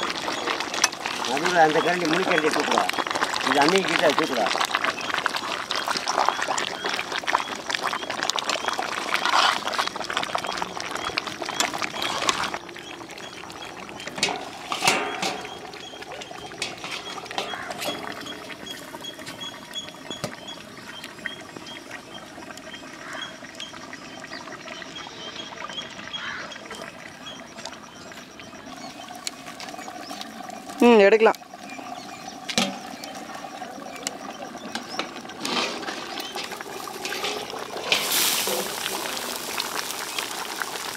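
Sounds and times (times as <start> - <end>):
gravy bubbling and sizzling: 0.0 - 40.9.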